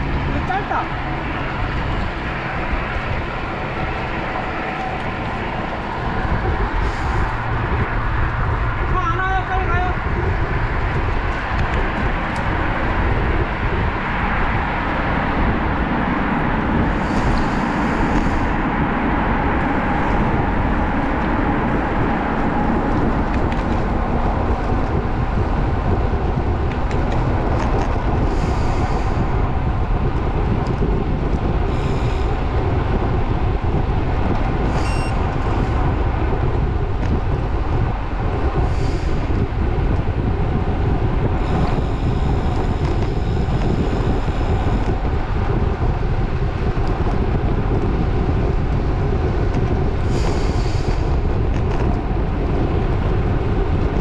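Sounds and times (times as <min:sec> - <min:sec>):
road rumble: 0:00.0 - 0:54.0
wind rush on microphone: 0:00.0 - 0:54.0.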